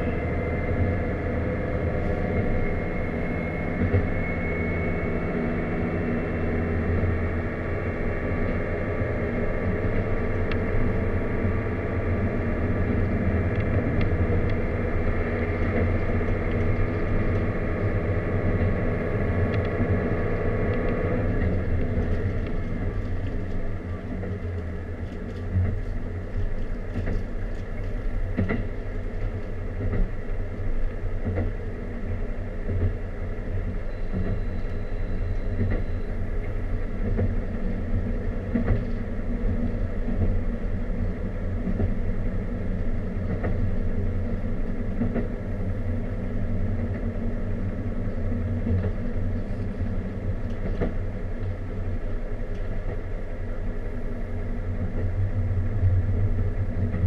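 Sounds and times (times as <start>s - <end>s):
railcar engine rumble: 0.0s - 57.0s.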